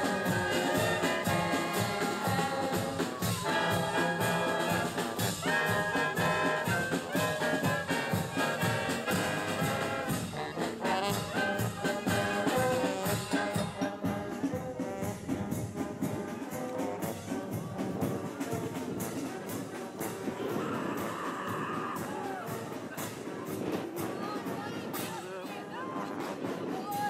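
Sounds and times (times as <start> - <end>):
marching brass band: 0.0 - 27.0.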